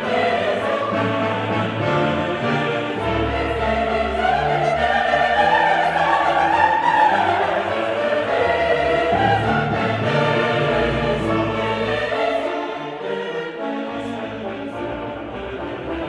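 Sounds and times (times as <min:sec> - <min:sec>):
choir singing held notes: 0:00.0 - 0:16.0
orchestral accompaniment: 0:00.0 - 0:16.0.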